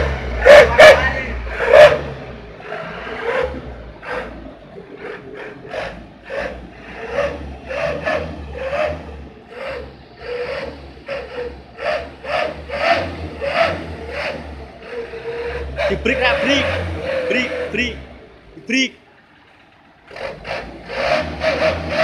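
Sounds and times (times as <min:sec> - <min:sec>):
exhaust yelping: 0:00.0 - 0:22.0
low truck engine rumble: 0:00.0 - 0:22.0.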